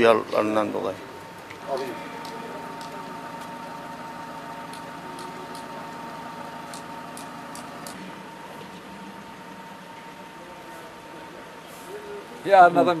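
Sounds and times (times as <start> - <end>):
thin steady whine: 0.0 - 13.0
vehicle engine idling: 1.0 - 12.5.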